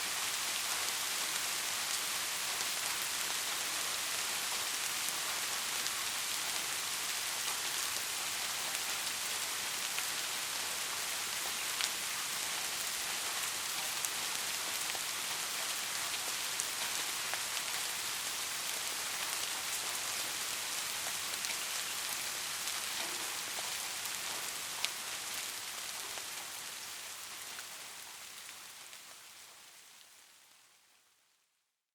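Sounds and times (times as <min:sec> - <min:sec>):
soft rain hiss: 0:00.0 - 0:31.9.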